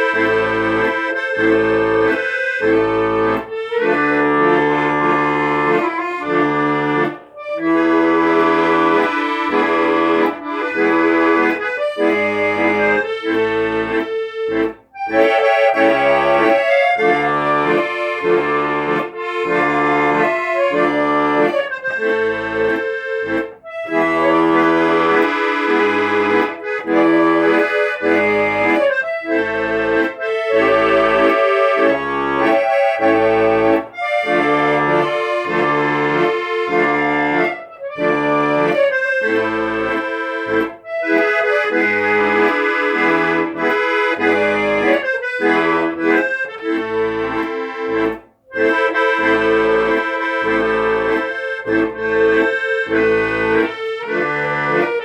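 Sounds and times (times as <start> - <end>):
accordion melody: 0.0 - 55.0
bass and chord accompaniment: 0.0 - 55.0.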